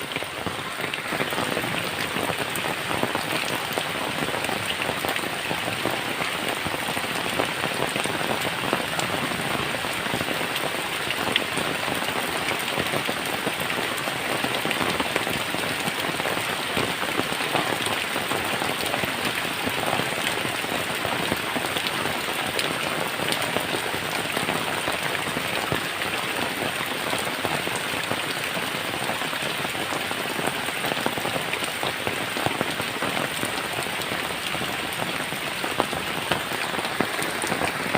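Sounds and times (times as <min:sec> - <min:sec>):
heavy rain on a tin roof: 0:00.0 - 0:37.9.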